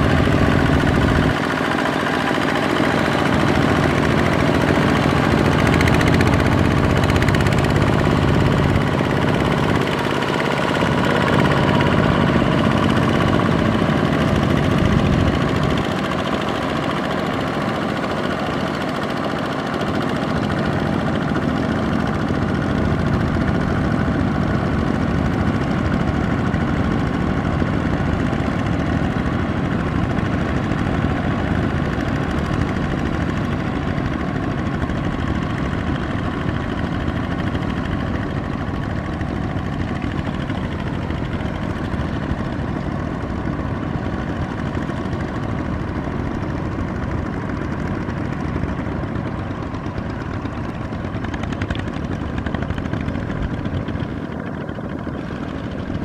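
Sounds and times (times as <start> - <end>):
diesel tiller engines running: 0.0 - 56.0.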